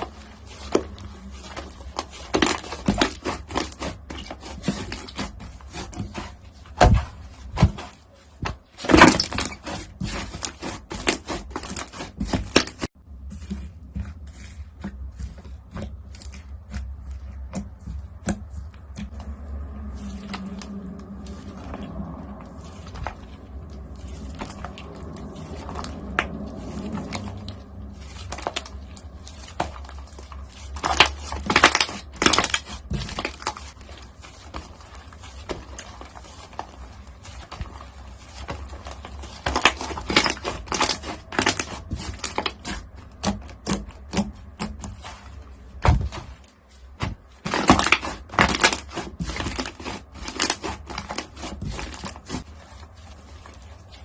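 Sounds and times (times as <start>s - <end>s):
crunchy slime crackling: 0.0s - 54.0s.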